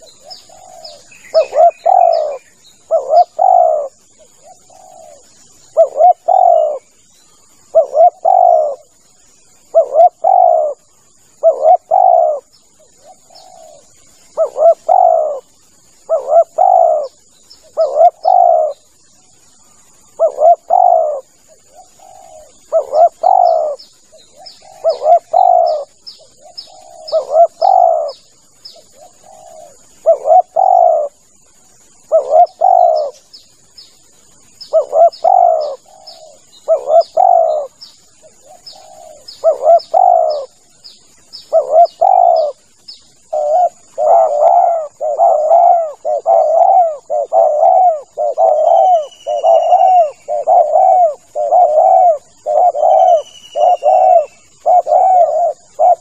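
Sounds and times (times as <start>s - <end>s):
dove cooing: 0.0s - 33.3s, 34.6s - 56.0s
small high bird chirps: 0.0s - 56.0s.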